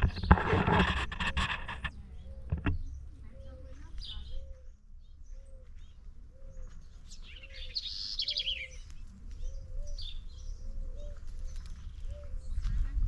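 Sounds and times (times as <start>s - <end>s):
dove cooing: 0.0s - 13.0s
songbird trill: 0.0s - 13.0s
high bird chirps: 1.9s - 12.8s.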